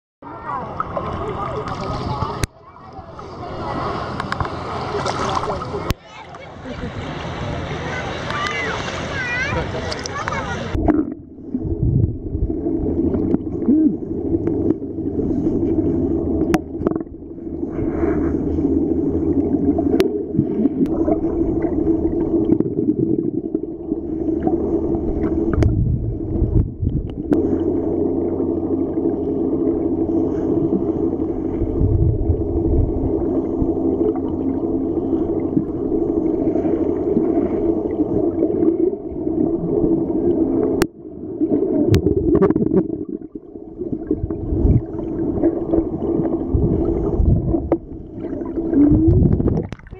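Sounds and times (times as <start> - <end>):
muffled underwater drone: 0.2 - 49.9
water swishing and gurgling: 0.2 - 49.9.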